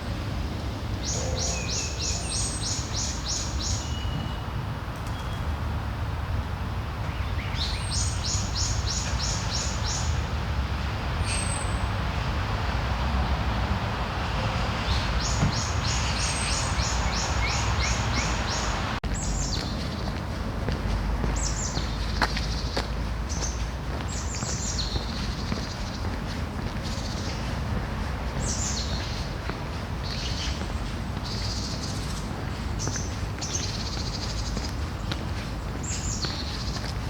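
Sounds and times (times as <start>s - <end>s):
songbirds singing: 1.0s - 5.5s, 7.0s - 10.3s, 14.8s - 37.0s.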